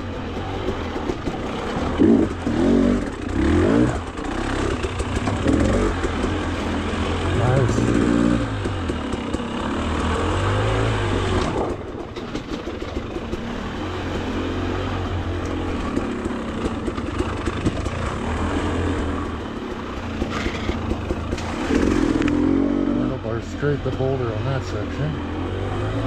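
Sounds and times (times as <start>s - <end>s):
dirt bike engine revving: 0.0s - 11.9s, 13.2s - 26.0s.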